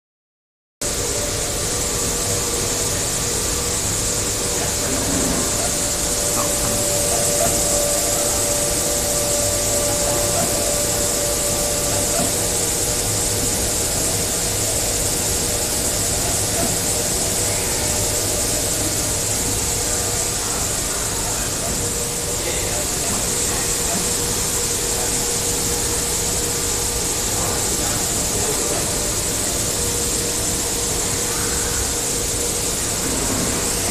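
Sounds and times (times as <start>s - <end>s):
constant machine hum: 0.8s - 33.9s
cutting machine hiss: 0.8s - 33.9s.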